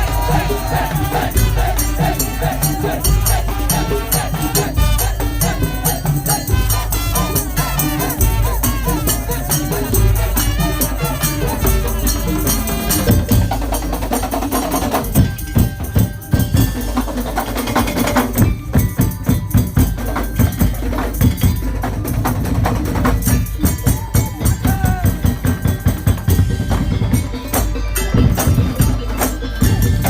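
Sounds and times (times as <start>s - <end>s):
percussion ensemble playing rhythmic music: 0.0s - 30.0s.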